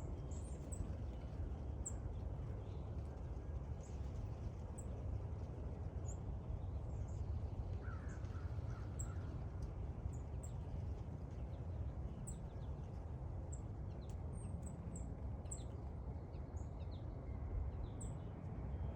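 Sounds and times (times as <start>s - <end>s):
low background rumble: 0.0s - 18.9s.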